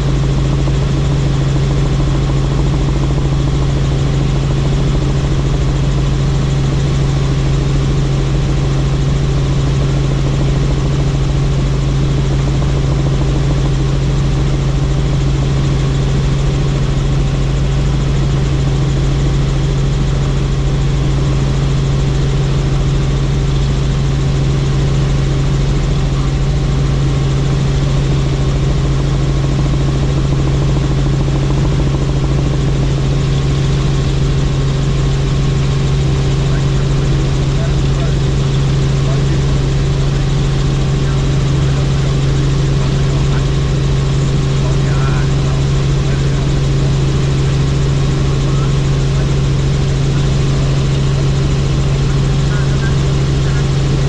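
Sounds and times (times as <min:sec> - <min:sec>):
helicopter engine and rotors: 0:00.0 - 0:54.0.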